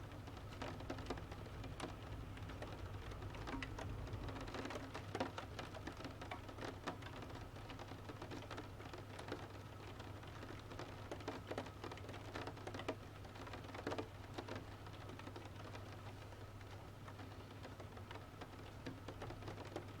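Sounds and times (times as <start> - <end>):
rain patter: 0.0 - 20.0.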